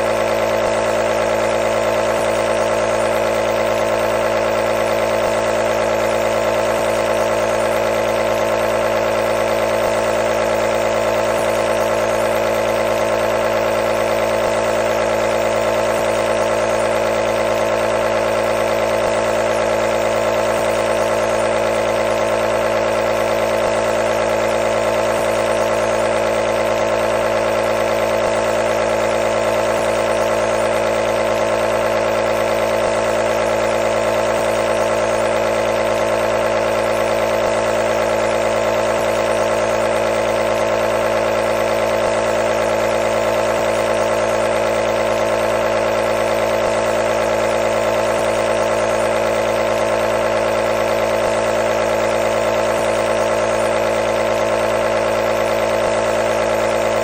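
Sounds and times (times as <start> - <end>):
nebulizer compressor humming: 0.0 - 57.0.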